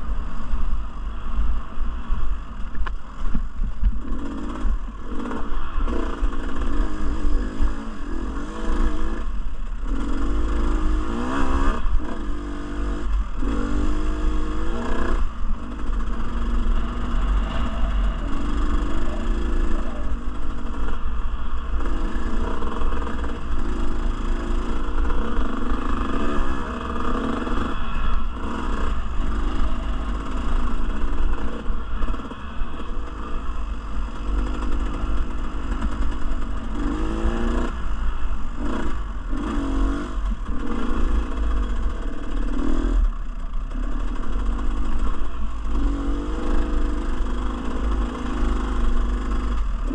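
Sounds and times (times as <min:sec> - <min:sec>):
wind rumble on microphone: 0:00.0 - 0:49.9
dirt bike engine revving: 0:04.0 - 0:43.1, 0:43.7 - 0:49.9.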